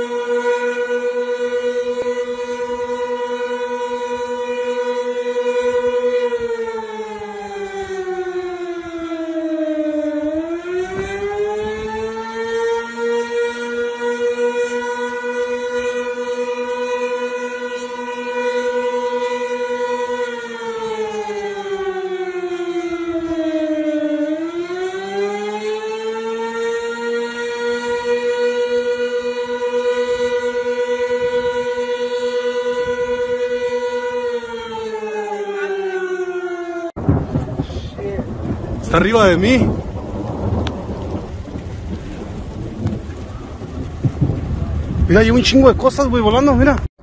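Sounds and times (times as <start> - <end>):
warning siren winding down: 0.0 - 46.9.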